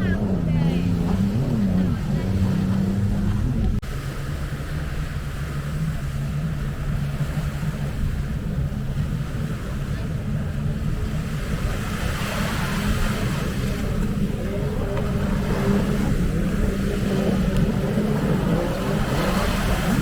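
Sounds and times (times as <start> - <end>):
faint voices: 0.0 - 3.8, 5.9 - 20.0
engine low rumble: 0.0 - 20.0.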